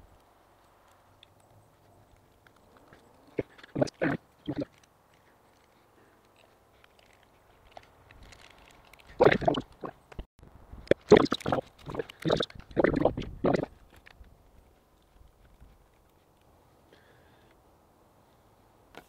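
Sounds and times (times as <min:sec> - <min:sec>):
cable rustling and scraping: 0:00.0 - 0:10.3, 0:10.9 - 0:16.5.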